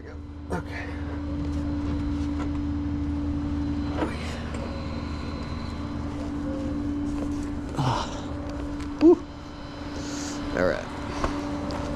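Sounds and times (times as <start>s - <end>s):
truck engine droning: 0.0s - 11.9s.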